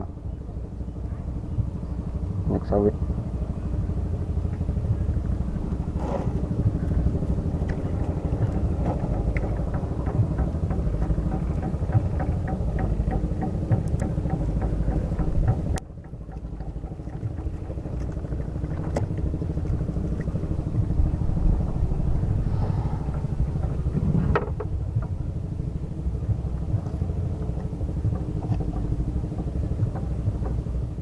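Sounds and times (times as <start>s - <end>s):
boat engine pulsing: 0.0s - 31.0s.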